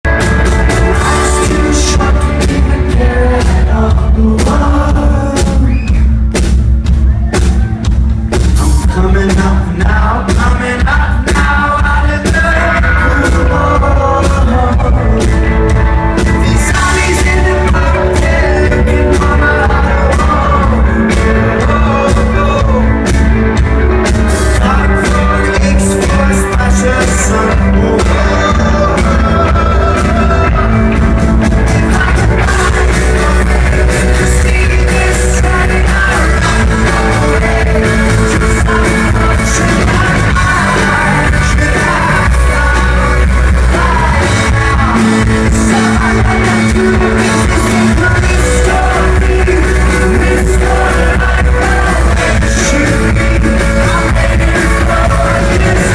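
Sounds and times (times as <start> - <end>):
live rock band playing: 0.0 - 55.9
lead vocals: 0.1 - 55.9.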